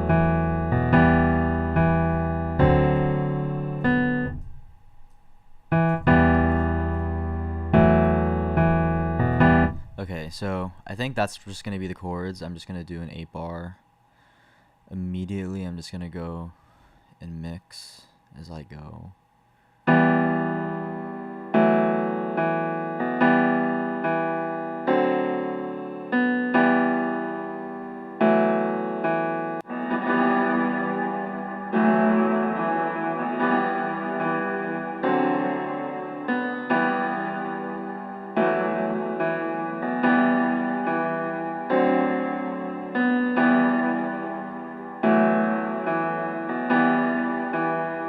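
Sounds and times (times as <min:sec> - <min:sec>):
piano chords: 0:00.0 - 0:12.2, 0:19.9 - 0:48.0.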